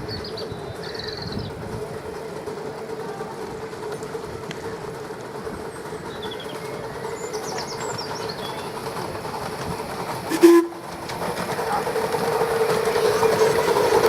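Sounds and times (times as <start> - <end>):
miniature steam train running: 0.0 - 14.0.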